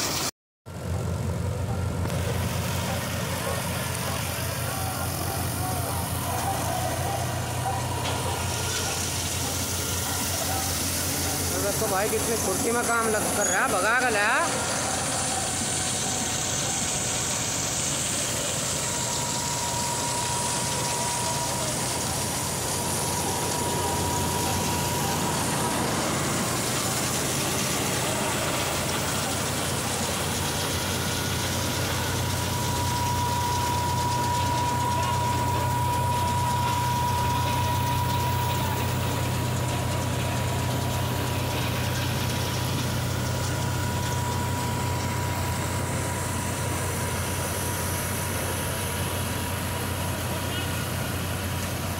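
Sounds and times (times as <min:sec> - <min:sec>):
diesel tractor engine running: 0:00.0 - 0:51.9
combine harvester threshing: 0:00.9 - 0:51.9
thin high whine: 0:01.7 - 0:51.9.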